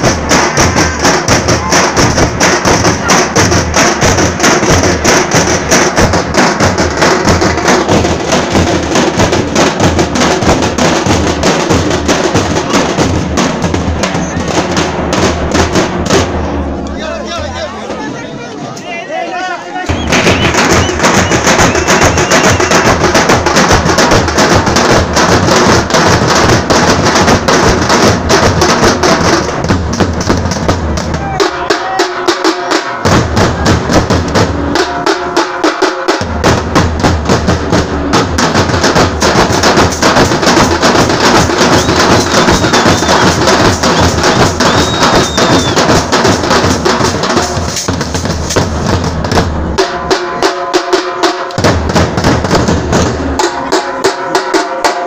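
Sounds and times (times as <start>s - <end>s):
barrel drums beating: 0.0s - 18.1s, 19.8s - 55.0s.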